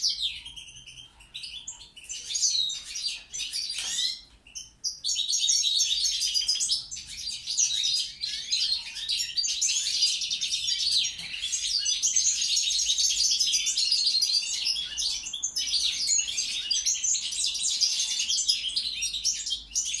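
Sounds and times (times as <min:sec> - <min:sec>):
goldfinch twittering song: 0:00.0 - 0:20.0.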